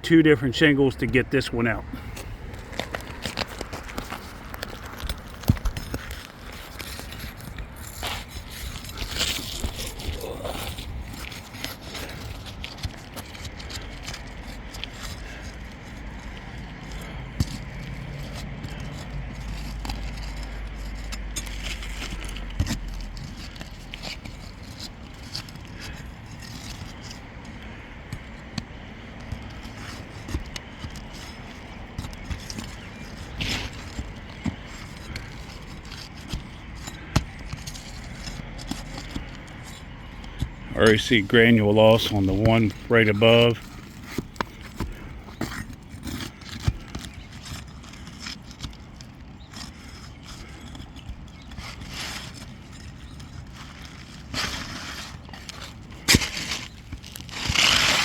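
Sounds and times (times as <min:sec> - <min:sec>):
scraping and crackling of roof shingles: 0:00.8 - 0:58.0.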